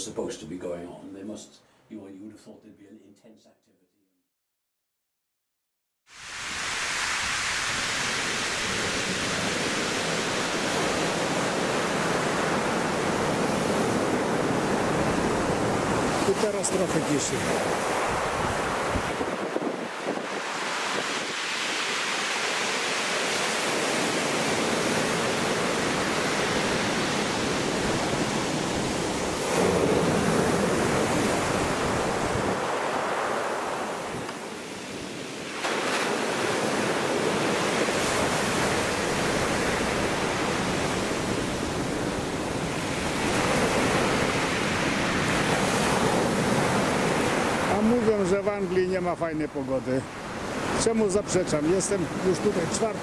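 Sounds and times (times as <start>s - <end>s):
sea surf washing onto shore: 6.1s - 53.0s.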